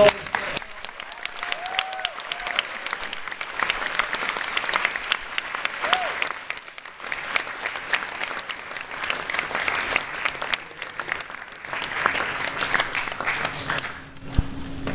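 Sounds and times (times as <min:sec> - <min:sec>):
large audience applauding: 0:00.0 - 0:14.2.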